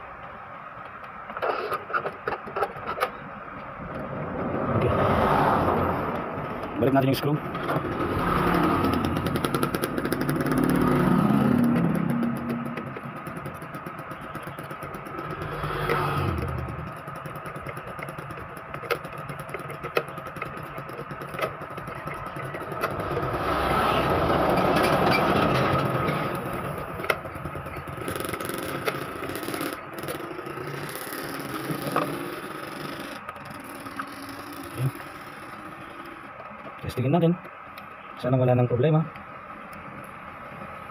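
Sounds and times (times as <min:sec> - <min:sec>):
passing traffic engine noise: 0:03.2 - 0:40.9.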